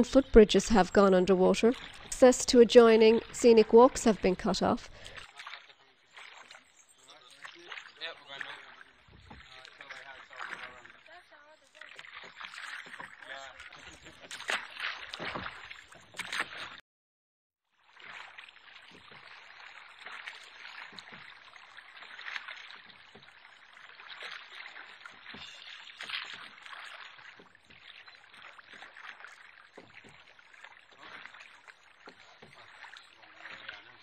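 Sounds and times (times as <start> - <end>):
floodwater trickling and lapping: 0.0 - 16.8, 17.6 - 34.0.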